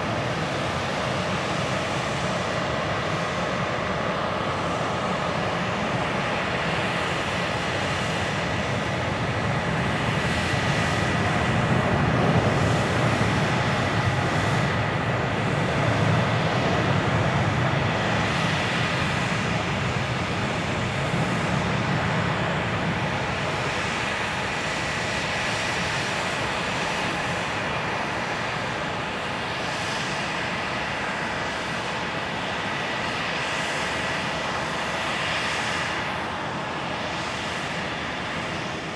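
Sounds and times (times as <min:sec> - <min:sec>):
jet airliner taking off: 0:00.0 - 0:38.9.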